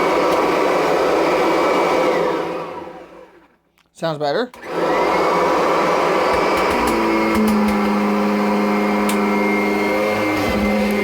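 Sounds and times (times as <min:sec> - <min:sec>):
vacuum cleaner whining: 0:00.0 - 0:03.6, 0:04.5 - 0:11.0.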